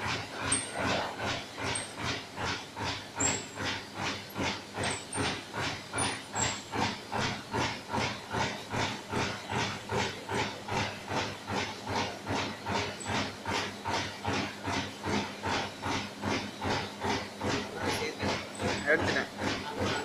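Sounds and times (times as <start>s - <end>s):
printing machine hissing strokes: 0.0s - 20.0s.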